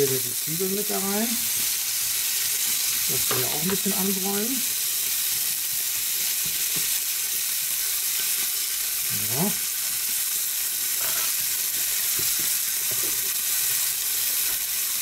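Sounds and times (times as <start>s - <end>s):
meat and onions sizzling: 0.0s - 15.0s.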